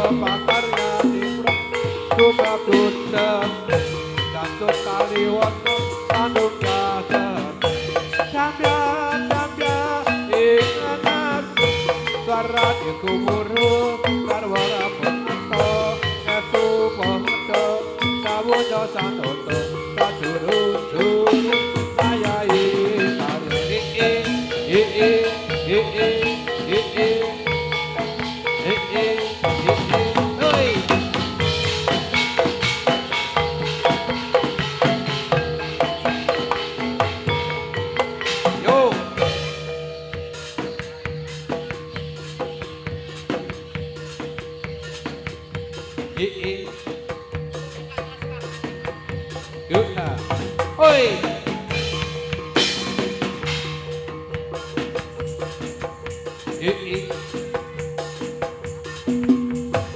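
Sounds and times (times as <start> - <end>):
drumming: 0.0 - 59.9
jingling rattles: 0.0 - 59.9
percussion ensemble playing: 0.0 - 59.9
struck metallophones ringing: 0.0 - 59.9.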